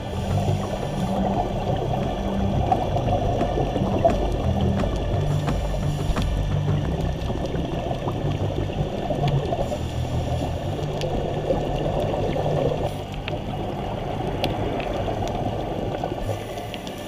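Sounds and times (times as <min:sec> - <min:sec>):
underwater bubbles burbling: 0:00.0 - 0:17.0.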